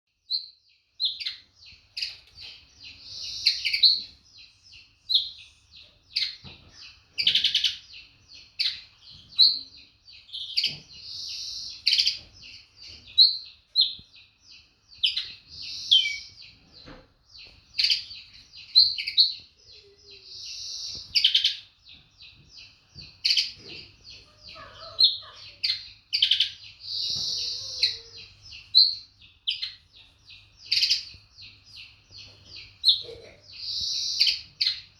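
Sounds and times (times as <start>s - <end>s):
linnet twittering song: 0.3s - 34.9s.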